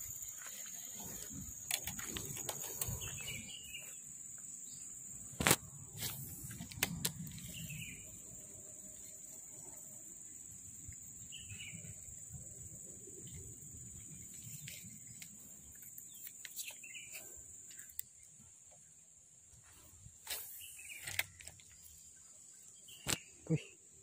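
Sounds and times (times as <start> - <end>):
birds chirping: 0.0 - 5.3, 7.3 - 19.0, 20.4 - 24.0
high insect drone: 0.0 - 24.0.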